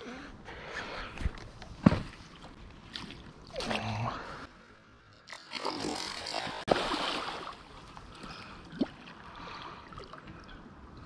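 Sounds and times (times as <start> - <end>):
water splashing and sloshing: 1.2 - 4.5, 5.1 - 10.9.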